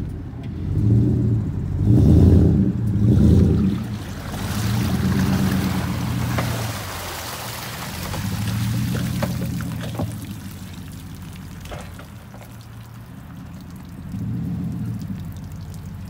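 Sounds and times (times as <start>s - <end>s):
vehicle engine hum: 0.0s - 16.0s
water pouring and dripping: 2.8s - 16.0s.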